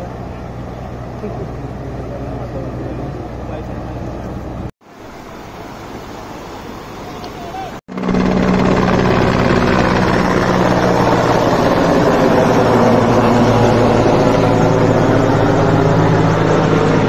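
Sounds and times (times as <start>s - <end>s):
helicopter rotor drone: 0.0s - 4.7s, 7.7s - 17.0s.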